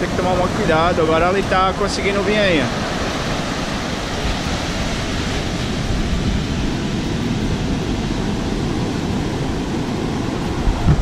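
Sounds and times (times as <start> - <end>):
ocean surf rushing: 0.0 - 11.0
wind rumble on microphone: 0.0 - 11.0.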